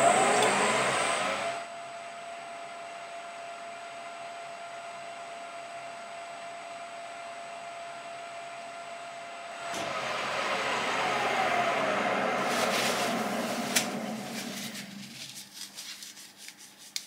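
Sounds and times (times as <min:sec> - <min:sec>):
workshop hum and hiss: 0:00.0 - 0:17.0.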